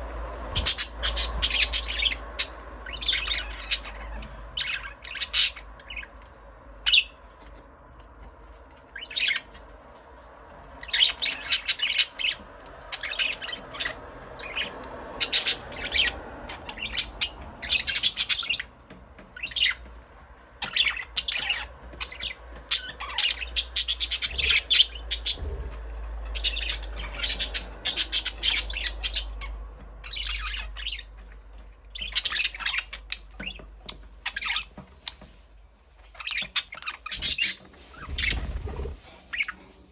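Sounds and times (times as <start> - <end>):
budgerigars chirping: 0.4 - 7.5, 8.9 - 9.7, 10.7 - 35.4, 36.0 - 39.6.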